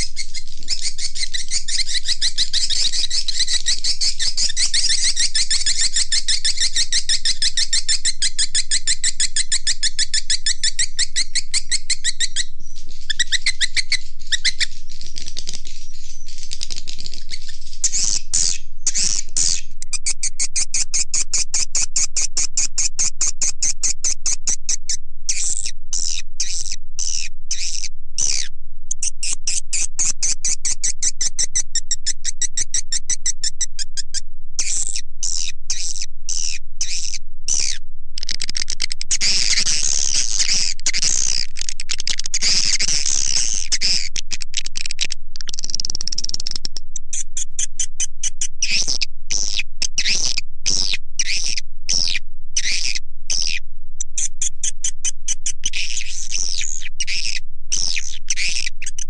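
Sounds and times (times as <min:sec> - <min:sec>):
high clicky bird chirps: 0:00.0 - 0:59.0.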